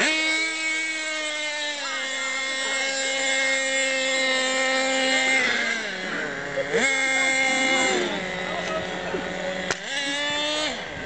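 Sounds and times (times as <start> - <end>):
toy car motor buzzing: 0.0 - 11.0.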